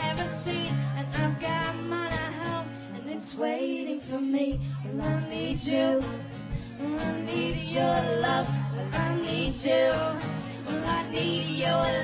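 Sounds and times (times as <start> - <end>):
guitar accompaniment: 0.0 - 12.0
woman singing: 0.0 - 12.0.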